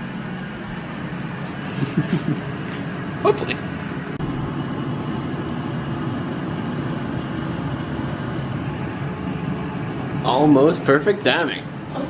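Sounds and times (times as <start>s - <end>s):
air fryer fan running: 0.0s - 12.0s.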